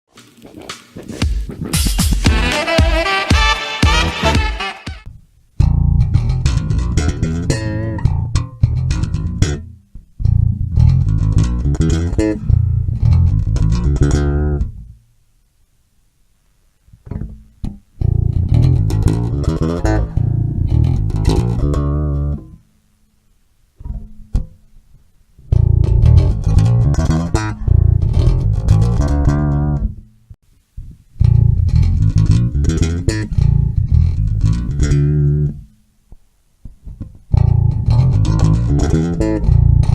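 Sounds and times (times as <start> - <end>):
electric bass guitar riffs: 0.2 - 15.0, 17.0 - 22.6, 25.4 - 30.2, 30.8 - 35.8, 36.6 - 39.9.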